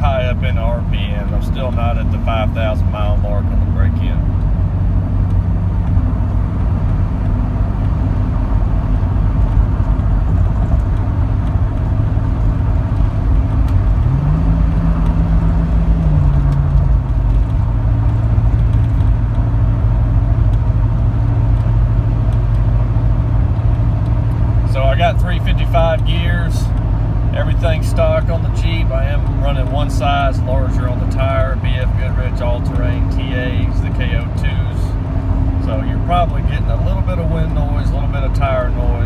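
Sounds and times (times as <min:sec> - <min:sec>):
low exhaust drone: 0:00.0 - 0:39.0.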